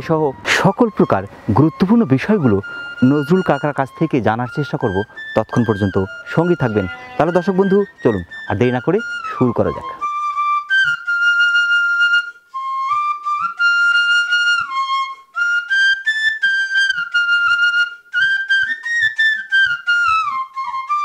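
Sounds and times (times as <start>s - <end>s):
flute melody: 0.0s - 21.0s.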